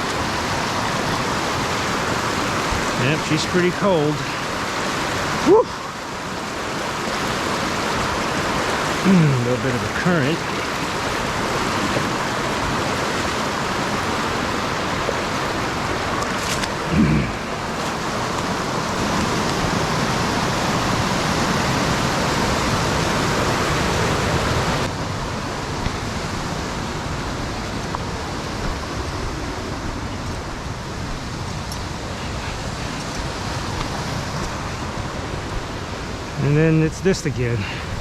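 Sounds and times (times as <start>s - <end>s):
creek water roaring: 0.0s - 38.0s.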